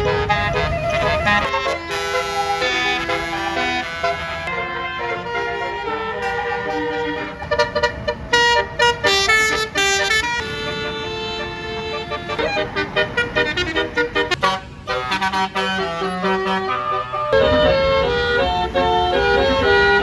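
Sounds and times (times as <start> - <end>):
bus air horn melody: 0.0 - 20.0.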